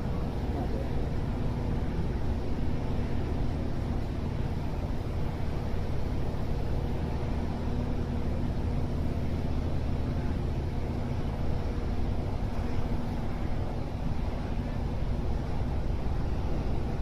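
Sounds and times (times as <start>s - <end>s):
boat engine rumbling: 0.0s - 17.0s
steady hum: 0.0s - 17.0s.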